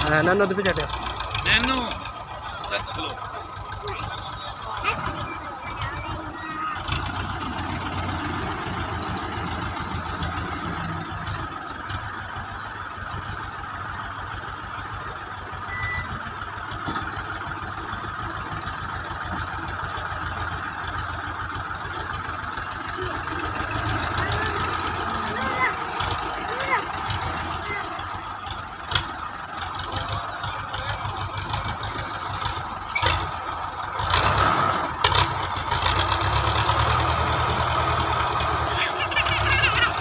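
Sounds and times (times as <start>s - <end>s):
tractor diesel engine chugging: 0.0s - 40.0s.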